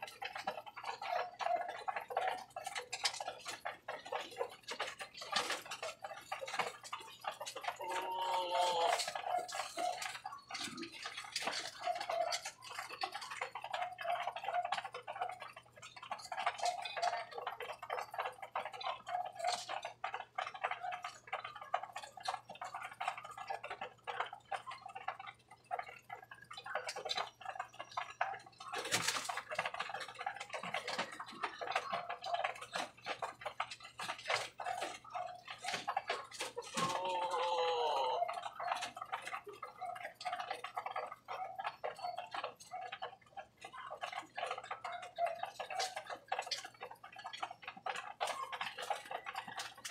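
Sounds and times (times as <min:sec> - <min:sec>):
pigeons pecking beak clicks: 0:00.0 - 0:49.9.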